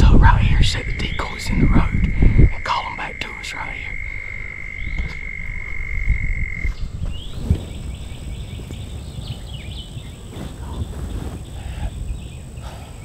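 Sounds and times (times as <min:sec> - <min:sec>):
low rumble: 0:00.0 - 0:12.6
birds chirping: 0:00.0 - 0:13.0.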